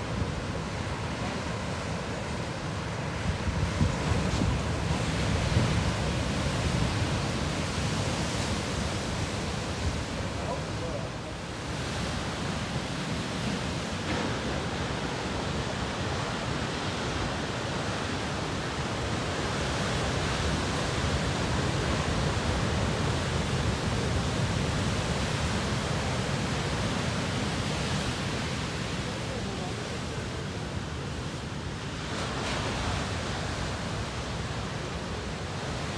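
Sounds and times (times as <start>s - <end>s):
ocean waves breaking: 0.0s - 35.9s
whitewater rushing over shore: 0.0s - 35.9s.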